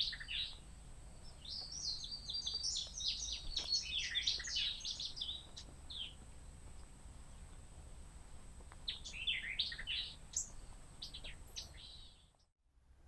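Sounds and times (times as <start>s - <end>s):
songbird singing: 0.0s - 12.5s.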